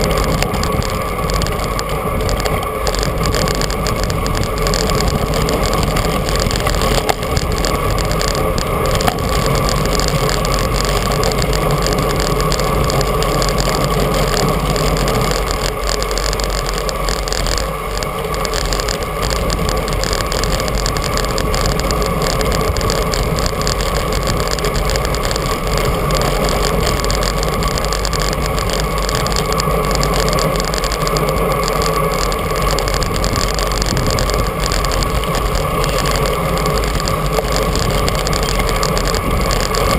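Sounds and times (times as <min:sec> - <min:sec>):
bicycle tyre noise: 0:00.0 - 0:39.9
constant hum: 0:00.0 - 0:39.9.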